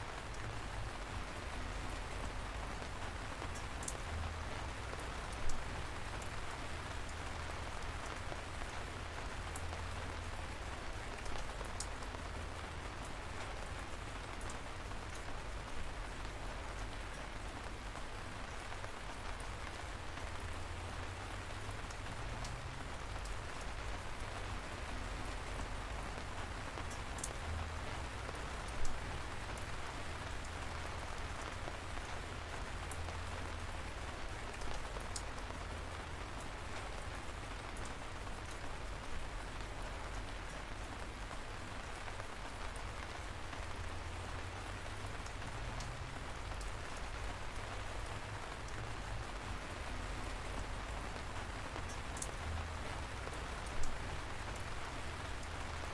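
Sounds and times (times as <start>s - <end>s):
light rain hissing: 0.0s - 55.9s
raindrops ticking: 0.1s - 55.9s.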